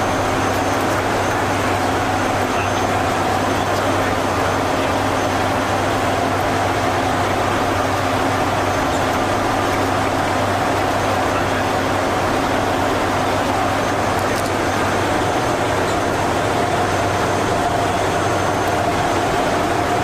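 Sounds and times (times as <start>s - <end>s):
turboprop engines droning: 0.0s - 20.0s.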